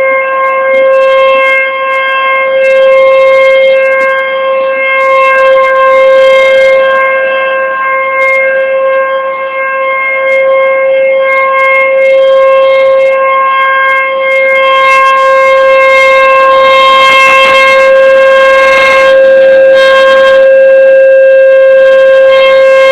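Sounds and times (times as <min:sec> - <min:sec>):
warning siren steady tone: 0:00.0 - 0:22.9.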